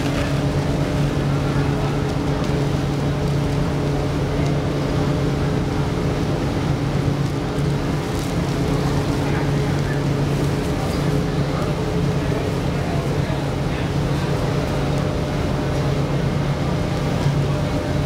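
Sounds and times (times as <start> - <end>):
ship engine drone: 0.0 - 18.0.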